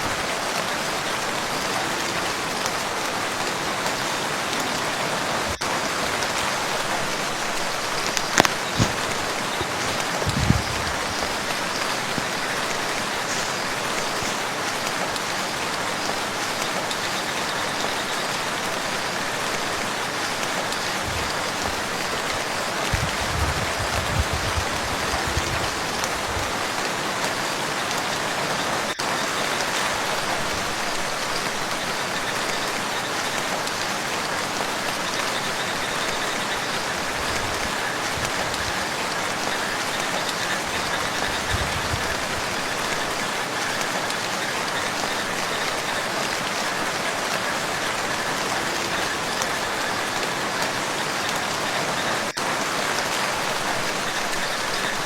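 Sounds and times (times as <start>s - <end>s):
rain falling on a lake: 0.0s - 55.0s.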